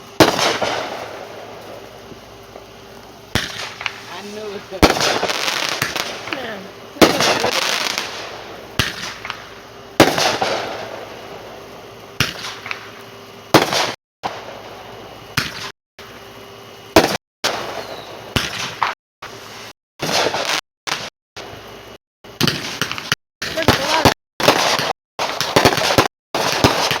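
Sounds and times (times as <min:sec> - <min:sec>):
fireworks bangs with crackle: 0:00.0 - 0:14.7, 0:17.0 - 0:19.0, 0:20.0 - 0:21.5, 0:22.4 - 0:27.0.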